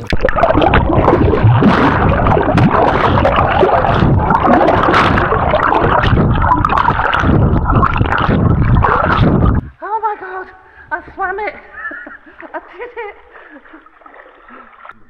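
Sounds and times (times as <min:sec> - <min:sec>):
water sloshing and splashing: 0:00.0 - 0:09.8, 0:11.8 - 0:15.0.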